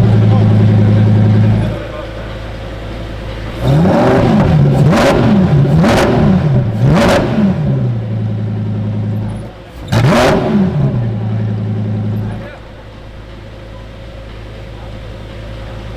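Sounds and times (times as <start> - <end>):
exhaust cracks: 0.0 - 15.9
sports car engine revving: 0.0 - 15.9.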